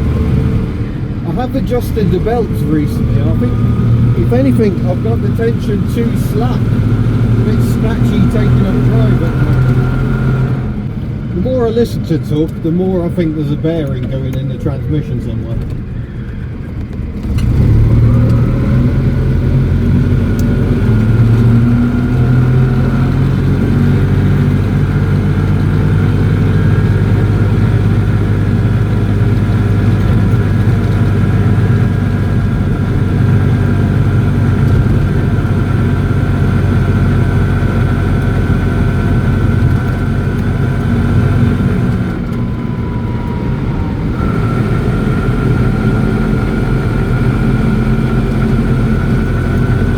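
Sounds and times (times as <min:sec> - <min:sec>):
car engine and transmission: 0:00.0 - 0:49.9.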